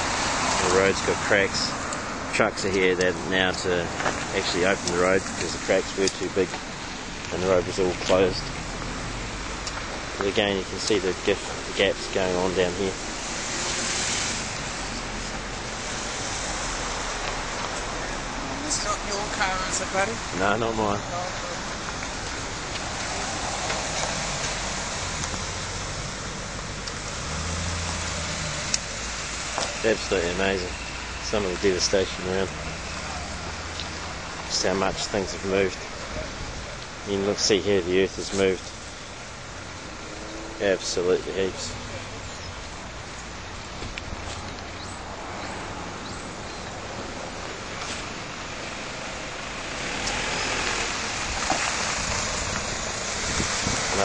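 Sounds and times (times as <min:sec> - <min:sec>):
outdoor noise hiss: 0:00.0 - 0:54.0
vehicle engine rumbling: 0:00.0 - 0:54.0.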